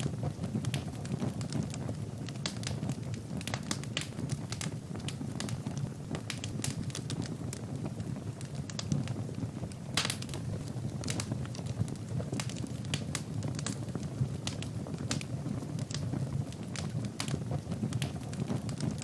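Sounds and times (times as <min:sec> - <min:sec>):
fire flames rushing: 0:00.0 - 0:19.0
logs crackling and popping: 0:00.0 - 0:19.0.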